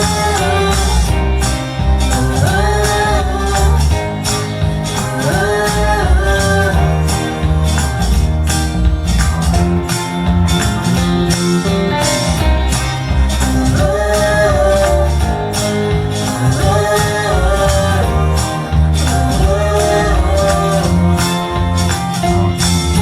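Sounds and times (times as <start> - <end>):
person singing: 0.0 - 8.3, 9.7 - 23.0
guitar: 0.0 - 23.0
steady bass beat: 0.0 - 23.0
tambourine: 0.0 - 23.0.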